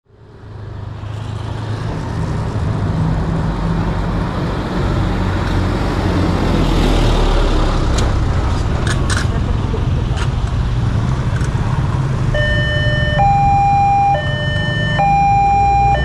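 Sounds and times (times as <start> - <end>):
road noise: 0.0 - 16.0
car and motorbike engines: 0.1 - 16.0.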